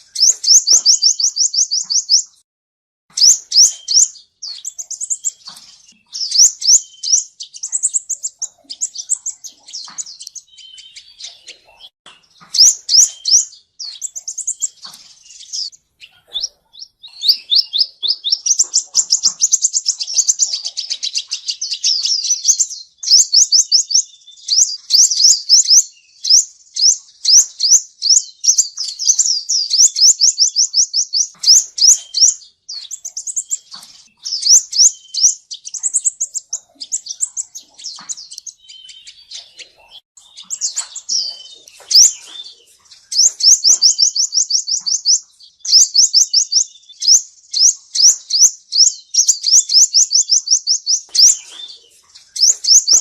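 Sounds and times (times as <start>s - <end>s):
bird singing rapid trills: 0.0s - 2.4s, 3.1s - 53.0s.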